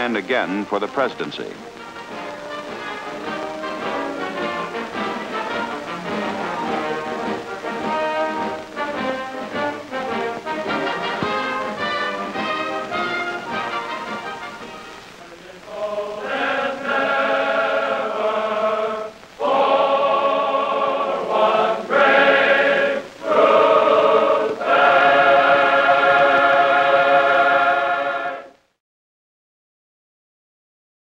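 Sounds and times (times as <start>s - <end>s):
choir singing held chords: 0.0s - 28.6s.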